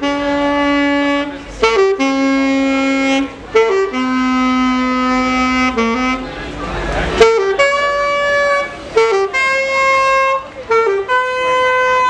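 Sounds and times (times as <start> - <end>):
alto saxophone solo: 0.0 - 12.0.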